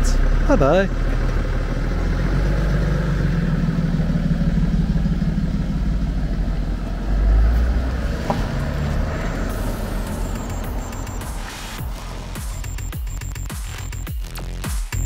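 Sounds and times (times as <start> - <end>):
diesel car engine pulling away: 0.0 - 14.6.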